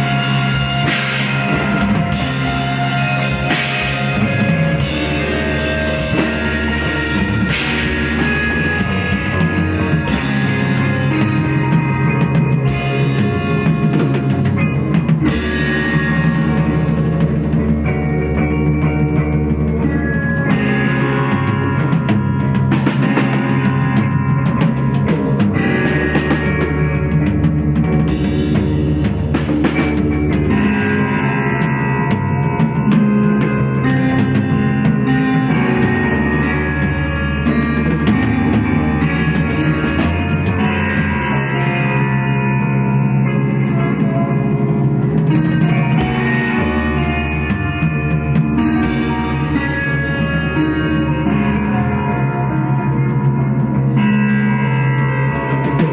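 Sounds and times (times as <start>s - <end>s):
sustained drone tone: 0.0s - 27.3s, 29.9s - 55.9s
drum kit: 0.0s - 55.9s
guitar: 0.0s - 55.9s.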